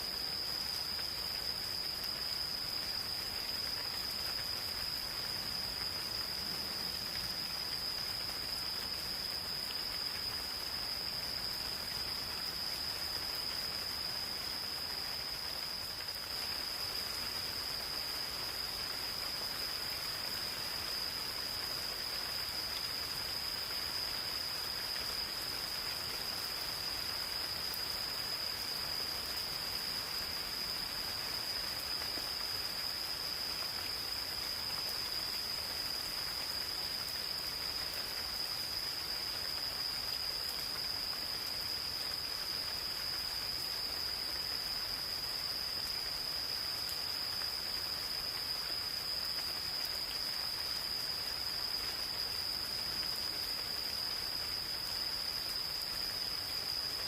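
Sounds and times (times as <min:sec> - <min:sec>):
gentle rain falling: 0:00.0 - 0:57.0
high-pitched insect chorus: 0:00.0 - 0:57.0.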